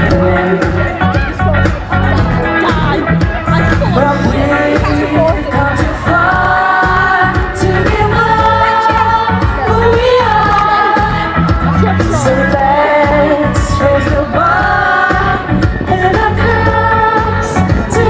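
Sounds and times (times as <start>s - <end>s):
pulsing bass: 0.0s - 18.0s.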